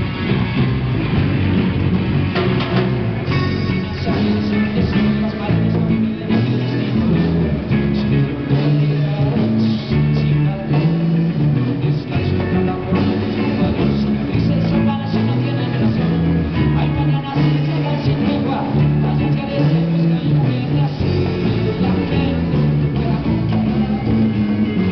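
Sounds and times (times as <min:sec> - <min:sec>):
drums: 0:00.0 - 0:24.9
electric guitars: 0:00.0 - 0:24.9.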